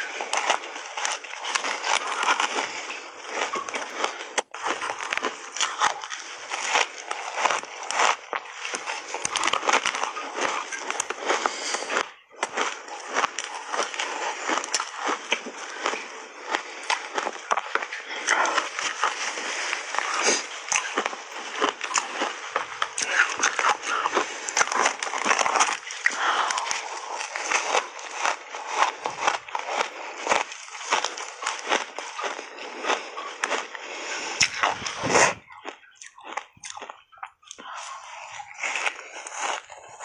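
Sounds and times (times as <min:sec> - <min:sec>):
chewing crunchy ice: 0:00.0 - 0:40.0.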